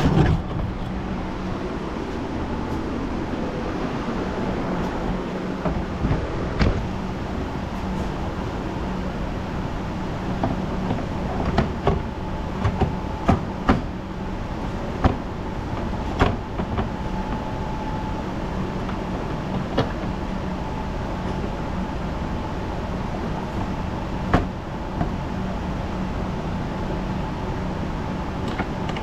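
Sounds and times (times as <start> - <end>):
workshop hum: 0.0 - 29.0.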